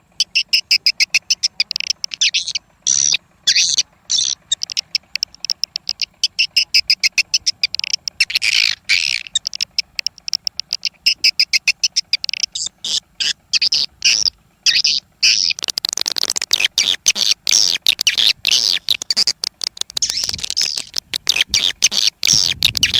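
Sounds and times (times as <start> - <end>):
bird clicking chirps: 0.0 - 22.9
bird twittering calls: 0.0 - 22.9.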